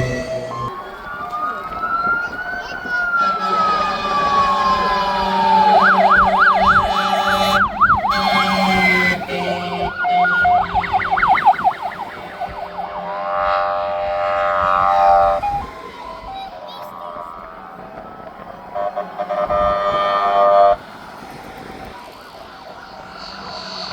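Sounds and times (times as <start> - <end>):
fire engine sirens: 0.0 - 23.9.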